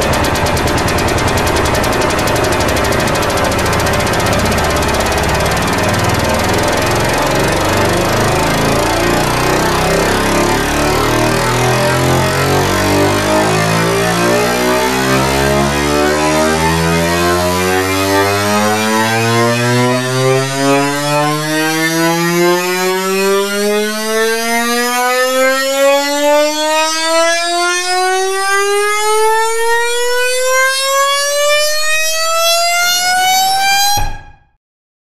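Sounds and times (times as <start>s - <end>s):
rapid rising midi notes: 0.0s - 29.2s.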